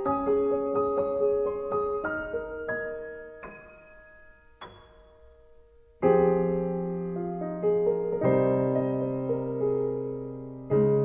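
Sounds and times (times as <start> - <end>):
piano chords ringing: 0.0 - 11.0.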